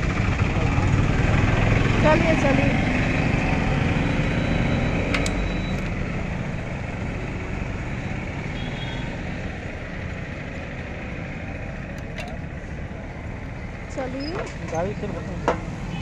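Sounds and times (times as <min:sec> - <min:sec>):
vehicle engine running: 0:00.0 - 0:15.6.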